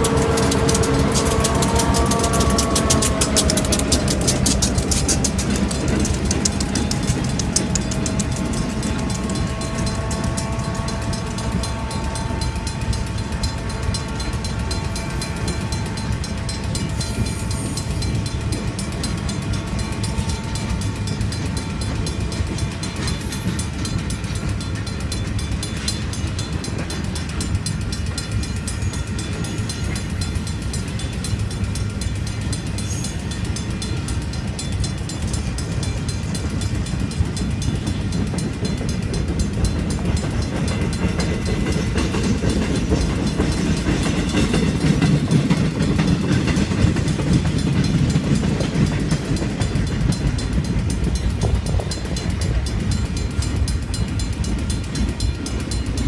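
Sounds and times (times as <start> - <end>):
crossing bell ringing: 0.0 - 56.0
freight train rumbling: 0.0 - 56.0
wheels clattering over rails: 0.0 - 56.0.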